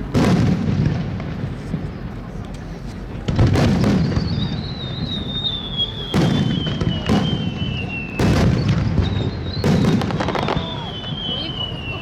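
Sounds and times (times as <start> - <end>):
firework shells booming: 0.0 - 2.0, 3.2 - 11.9
rumble of fireworks: 0.0 - 12.0.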